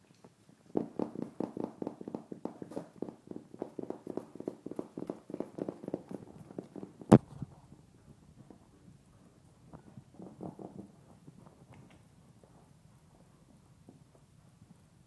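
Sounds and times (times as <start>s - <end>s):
puppy paws scampering on floor: 0.0s - 14.9s.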